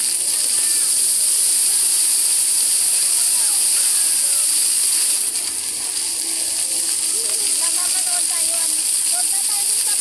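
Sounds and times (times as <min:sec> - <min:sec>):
faint voices: 0:00.0 - 0:10.0
fountain jets splashing on paving: 0:00.0 - 0:10.0.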